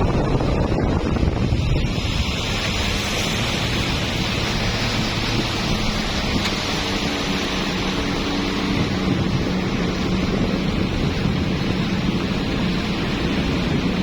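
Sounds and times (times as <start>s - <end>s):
boat engine humming: 0.0s - 14.0s
water rushing: 0.0s - 14.0s
wind noise on microphone: 0.0s - 14.0s.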